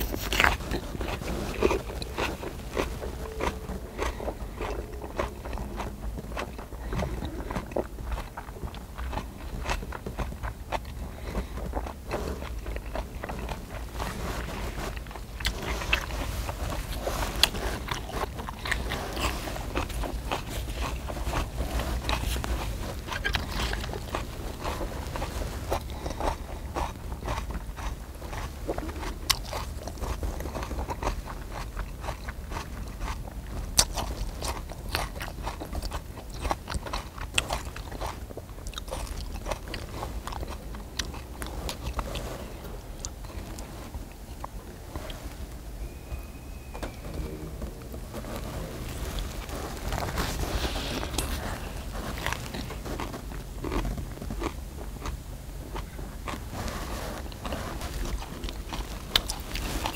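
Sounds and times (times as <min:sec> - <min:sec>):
chewing and biting meat: 0:00.0 - 0:45.2, 0:47.0 - 0:59.9
steady low rumble: 0:00.0 - 0:59.9.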